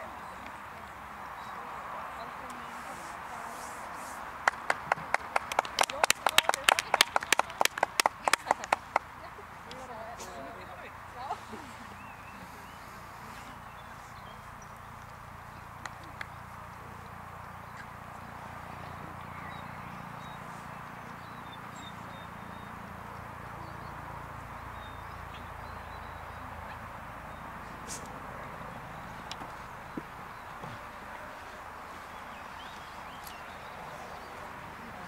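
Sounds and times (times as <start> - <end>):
outdoor background noise: 0.0 - 35.0.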